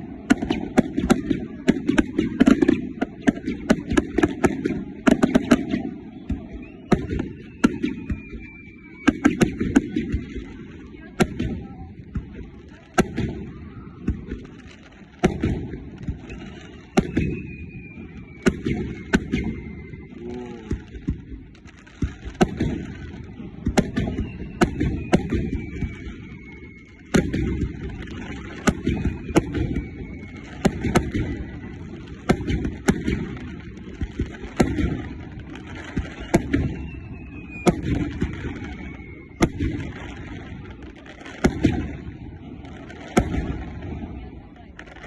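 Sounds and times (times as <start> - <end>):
descending firework whistles: 0.0 - 45.0
fireworks bangs: 0.0 - 45.0.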